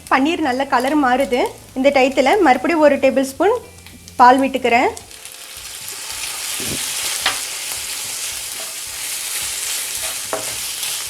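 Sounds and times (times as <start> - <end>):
cheese sizzling in a pan: 0.0 - 11.0.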